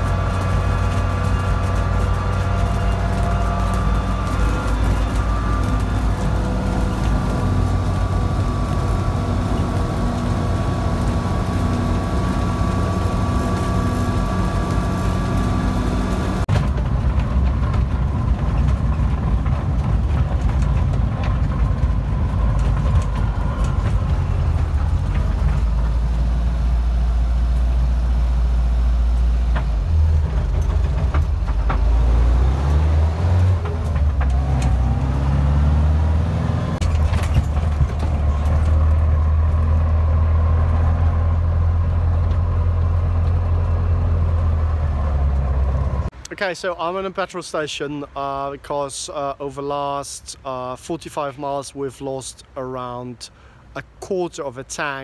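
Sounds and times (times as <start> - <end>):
deep uneven rumble with knocks: 0.0 - 46.2
truck engine running with whine: 0.0 - 46.3.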